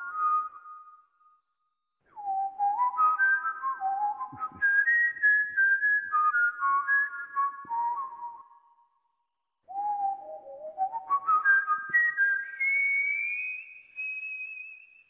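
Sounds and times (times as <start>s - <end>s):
whistled melody: 0.0s - 15.0s.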